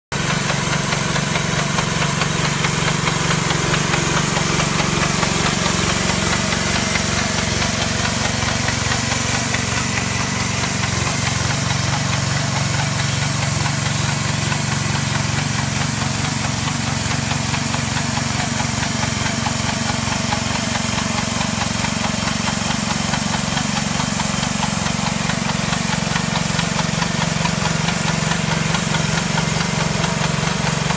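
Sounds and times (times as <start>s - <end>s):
small petrol engine running: 0.1s - 30.9s
paint spray hiss: 0.2s - 30.9s.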